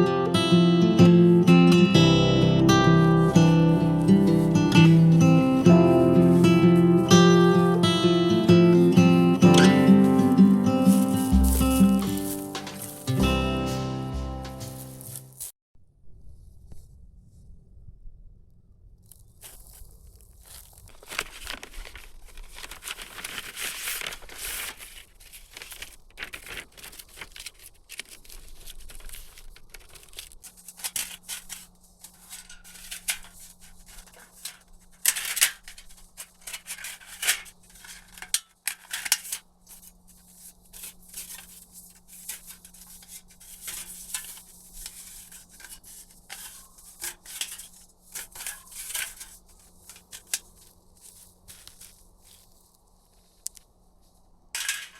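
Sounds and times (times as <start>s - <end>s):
rustling and crinkling material: 3.2s - 13.7s, 14.4s - 15.6s, 19.1s - 54.9s.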